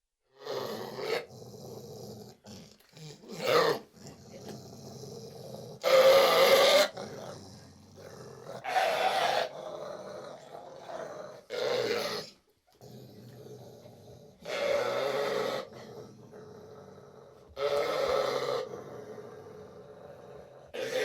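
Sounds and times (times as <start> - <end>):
dog gruff drawn-out vocalizations: 0.3 - 21.0.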